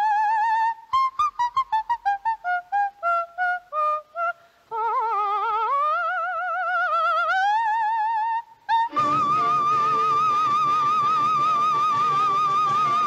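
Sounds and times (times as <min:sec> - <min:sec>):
soprano singing: 0:00.0 - 0:13.0.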